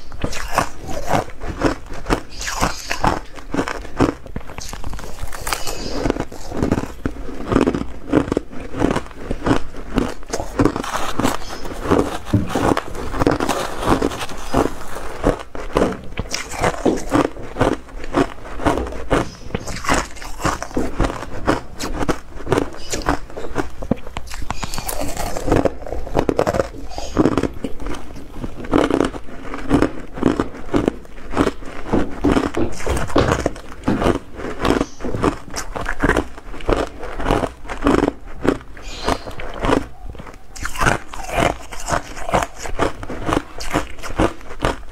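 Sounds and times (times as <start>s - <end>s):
crushed ice being chewed: 0.0s - 44.9s.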